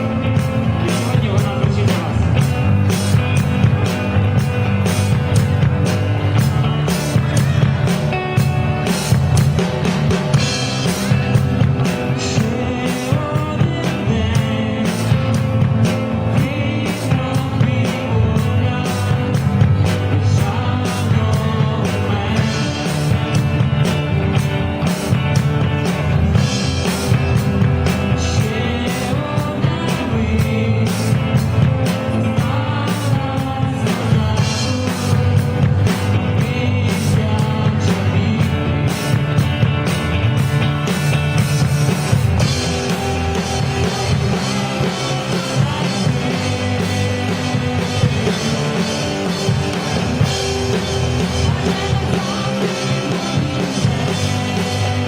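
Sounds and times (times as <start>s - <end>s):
bass guitar: 0.0s - 55.0s
drum kit: 0.0s - 55.0s
electric guitars: 0.0s - 55.0s
rock band playing live: 0.0s - 55.0s.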